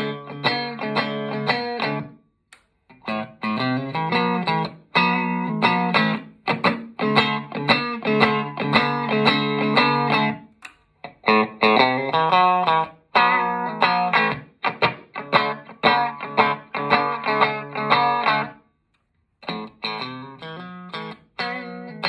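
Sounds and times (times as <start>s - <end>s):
electric guitar chords and notes: 0.0s - 2.2s, 2.8s - 18.6s, 19.4s - 22.0s.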